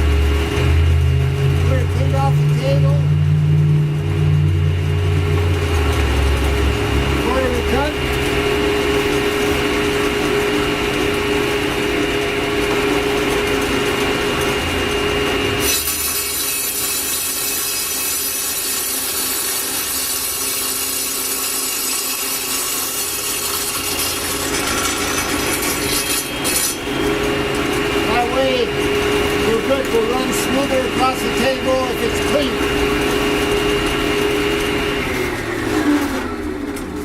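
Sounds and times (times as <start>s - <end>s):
power saw cutting brick: 0.0s - 37.0s.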